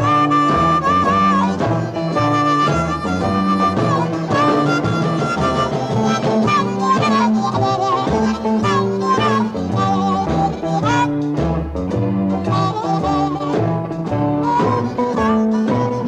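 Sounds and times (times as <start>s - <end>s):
band rhythm: 0.0s - 16.0s
blues guitar: 0.0s - 16.0s
harmonica: 0.0s - 16.0s.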